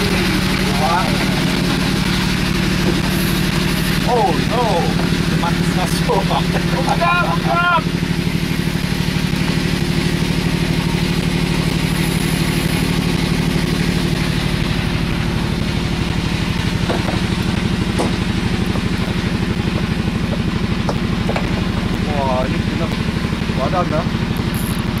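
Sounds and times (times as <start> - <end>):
boat engine throbbing: 0.0 - 25.0.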